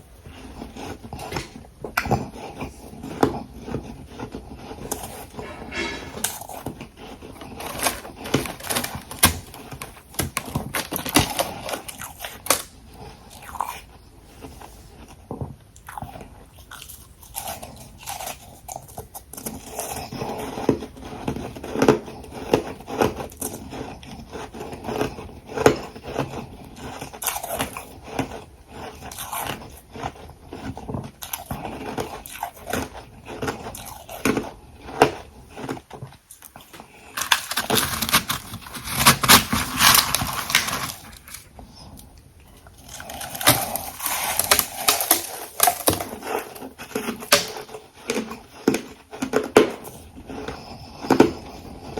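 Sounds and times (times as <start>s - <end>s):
person chewing hard ice: 0.0s - 51.9s.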